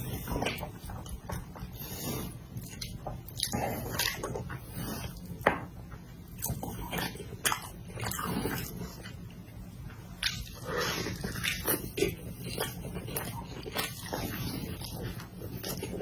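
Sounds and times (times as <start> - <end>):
wet chewing and mouth smacks: 0.0 - 5.5, 6.1 - 16.0.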